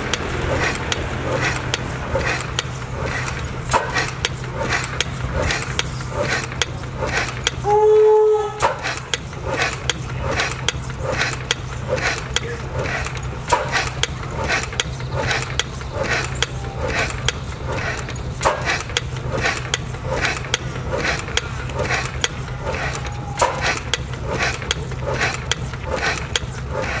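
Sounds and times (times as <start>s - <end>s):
valve gear clicking: 0.0s - 7.7s, 8.6s - 27.0s
engine knock: 0.0s - 7.8s, 8.6s - 27.0s
stationary engine running: 0.0s - 27.0s.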